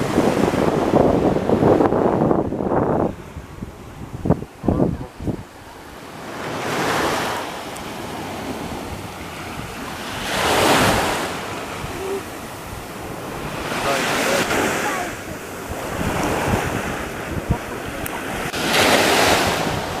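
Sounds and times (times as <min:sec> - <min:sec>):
sea waves washing ashore: 0:00.0 - 0:20.0
wind buffeting microphone: 0:00.0 - 0:20.0.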